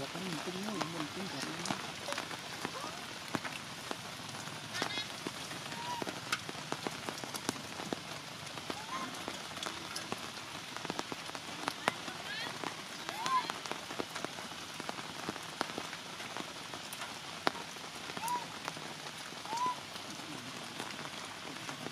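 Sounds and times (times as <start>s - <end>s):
heavy rain pattering: 0.0s - 21.9s.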